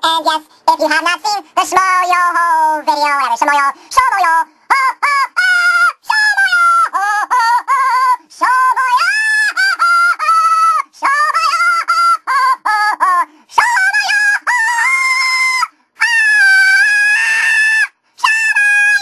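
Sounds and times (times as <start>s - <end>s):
auto-tuned singing voice: 0.0s - 19.0s.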